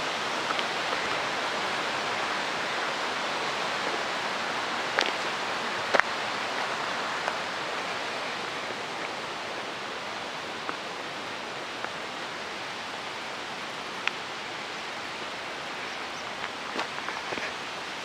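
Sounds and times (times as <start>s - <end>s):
steady outdoor rushing noise: 0.0s - 18.0s.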